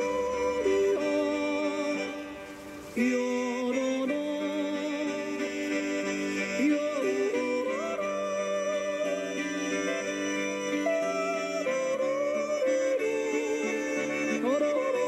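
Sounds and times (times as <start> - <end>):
slow melody with vibrato: 0.0 - 15.0.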